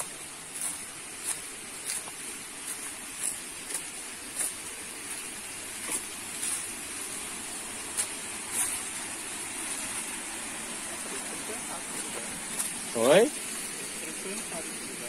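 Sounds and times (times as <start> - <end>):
footsteps crunching on dry leaves: 0.0 - 14.9
waterfall rushing: 0.0 - 15.0.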